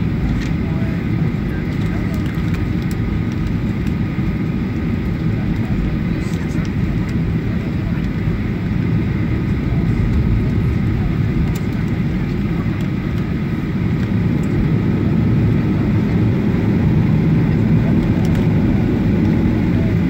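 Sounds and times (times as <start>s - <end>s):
jet engines rumbling with whine: 0.0s - 20.0s.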